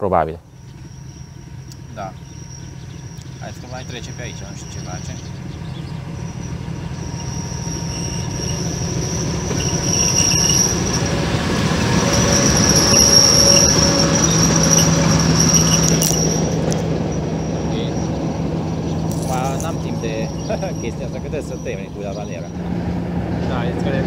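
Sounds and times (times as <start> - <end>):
diesel locomotive passing: 0.0 - 24.0
wheels squealing on rails: 0.5 - 24.0.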